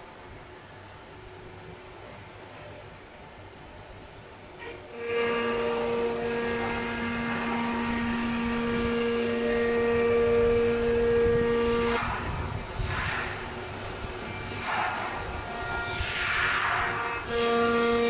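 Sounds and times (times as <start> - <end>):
cnc router whine: 0.0 - 18.0.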